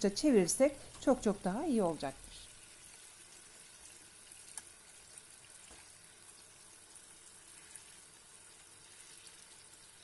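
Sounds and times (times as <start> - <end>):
tomato slices sizzling in pan: 0.0 - 10.0.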